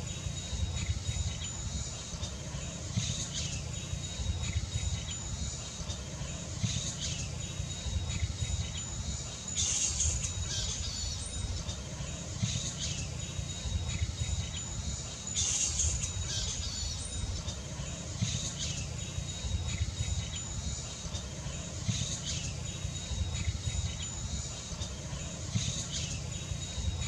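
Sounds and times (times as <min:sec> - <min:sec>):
flying foxes squawking: 0:00.0 - 0:27.0.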